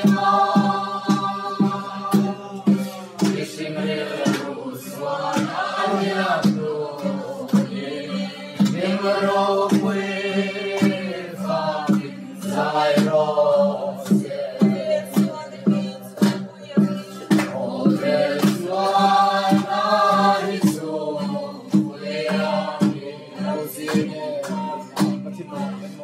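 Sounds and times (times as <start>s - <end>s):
sharp beats keeping time: 0.0s - 25.3s
group singing a hymn: 0.0s - 26.0s.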